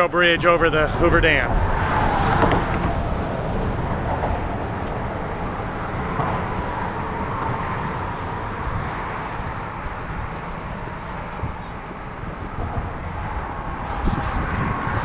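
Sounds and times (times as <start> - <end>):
highway traffic: 0.0 - 15.0
wind rumbling on microphone: 0.0 - 15.0.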